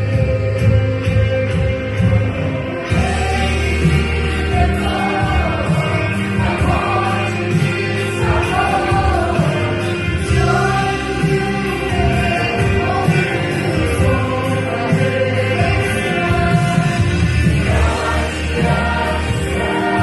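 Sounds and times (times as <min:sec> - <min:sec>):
musical accompaniment: 0:00.0 - 0:20.0
vocal ensemble singing in harmony: 0:00.0 - 0:20.0.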